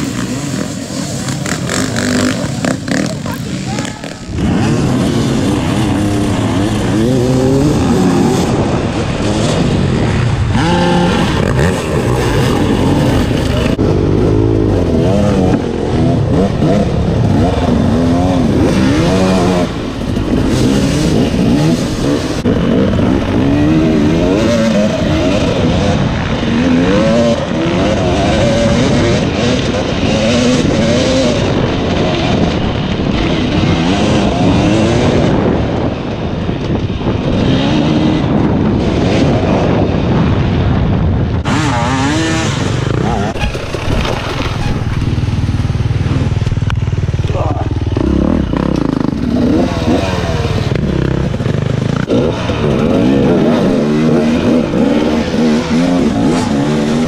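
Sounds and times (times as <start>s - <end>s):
dirt bike engine revving: 0.0s - 40.8s, 41.4s - 57.0s.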